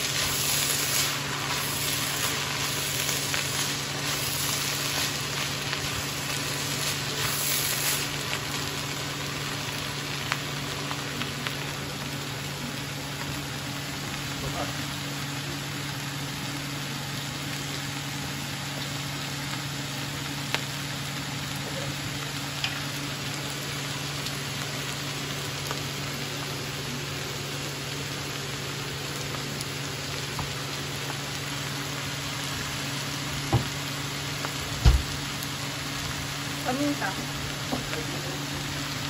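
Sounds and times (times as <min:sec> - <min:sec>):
vegetables sizzling in a frying pan: 0:00.0 - 0:39.0.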